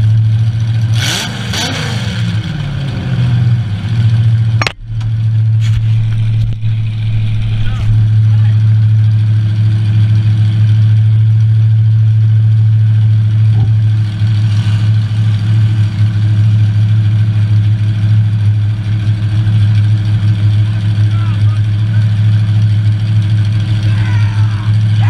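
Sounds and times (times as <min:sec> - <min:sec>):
car engine idling: 0:00.0 - 0:01.1, 0:02.2 - 0:25.0.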